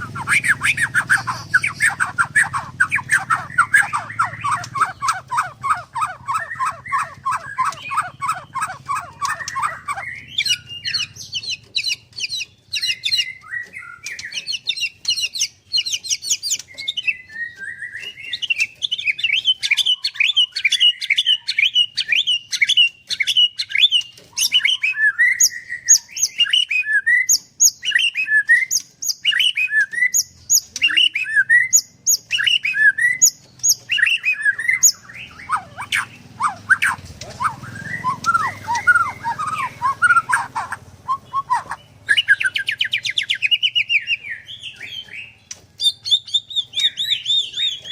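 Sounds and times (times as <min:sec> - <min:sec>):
songbird singing varied song: 0:00.0 - 0:47.9.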